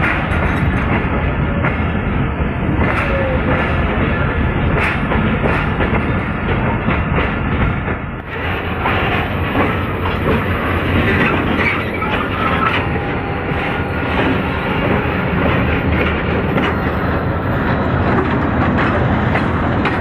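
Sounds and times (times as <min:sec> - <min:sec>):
train rumbling on track: 0:00.0 - 0:20.0
wheels clicking over rail joints: 0:02.7 - 0:20.0.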